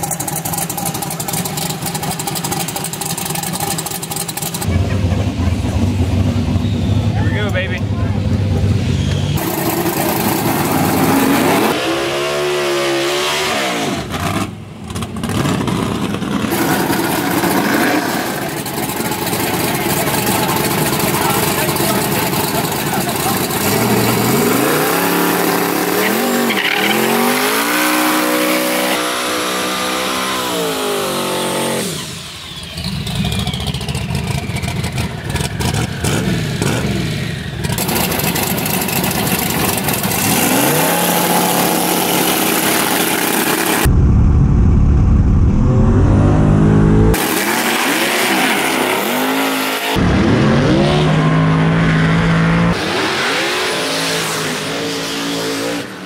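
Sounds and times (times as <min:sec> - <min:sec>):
engine revving: 0:05.9 - 0:56.0.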